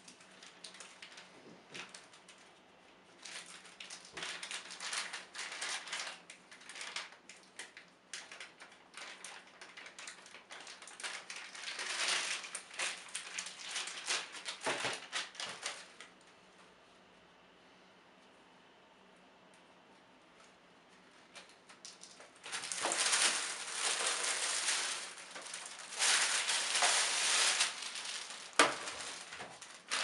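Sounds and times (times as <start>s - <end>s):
plastic bag crinkling: 0.0s - 16.1s, 21.1s - 30.0s.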